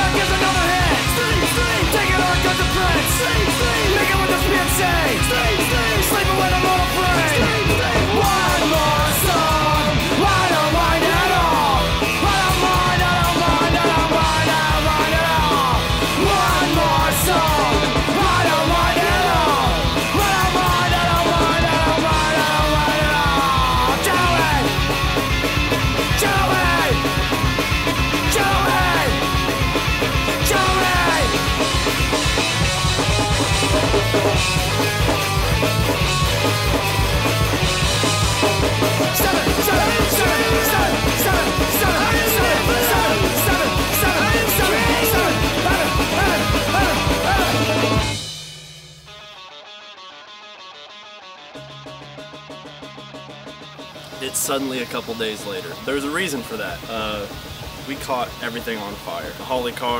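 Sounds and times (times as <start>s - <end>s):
rock music with driving beat: 0.0s - 59.8s.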